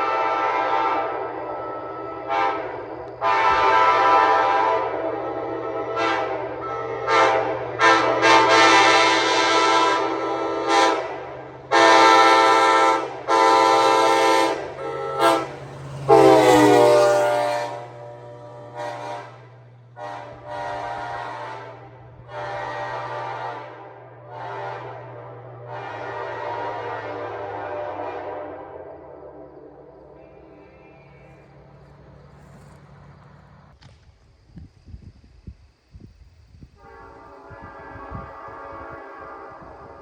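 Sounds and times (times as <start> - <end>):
locomotive air horn blasts: 0.0 - 32.8, 36.8 - 40.0.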